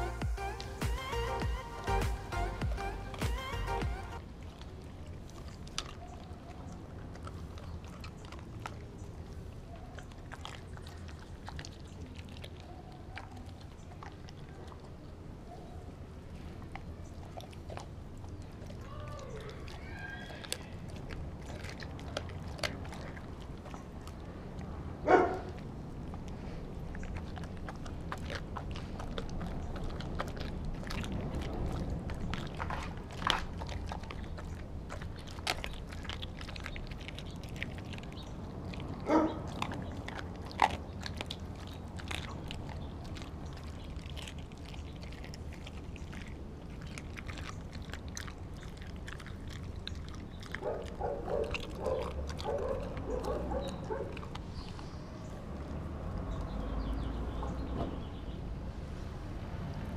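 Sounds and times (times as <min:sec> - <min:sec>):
dog crunching food: 0:00.0 - 0:57.7.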